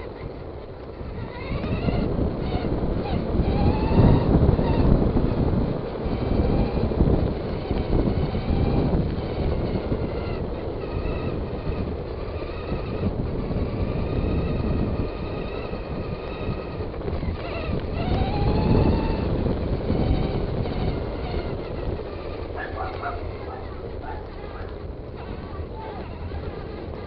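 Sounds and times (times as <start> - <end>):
rc car electric motor whining: 0.0 - 27.0.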